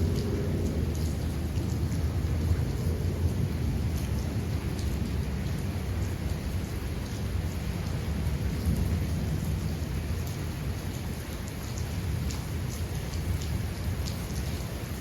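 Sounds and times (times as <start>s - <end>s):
heavy rainfall: 0.0s - 15.0s
low rumble of thunder: 0.0s - 15.0s.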